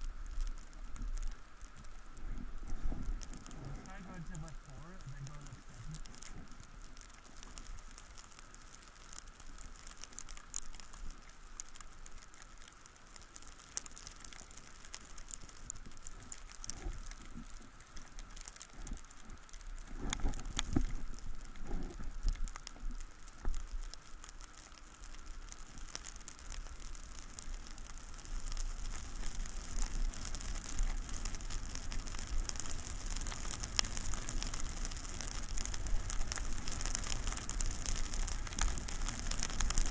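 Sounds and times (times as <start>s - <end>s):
crackling hiss of sliding over snow: 0.0s - 39.9s.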